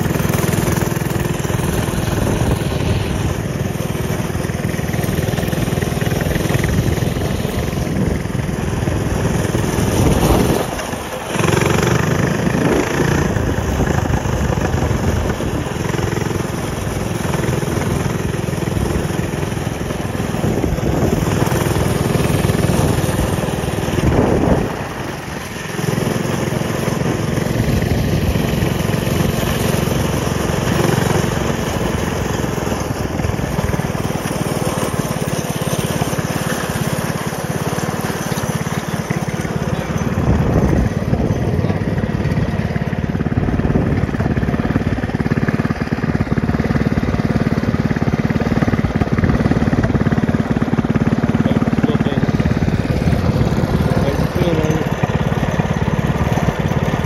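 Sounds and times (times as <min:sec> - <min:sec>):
mini bike engine running: 0:00.0 - 0:57.0.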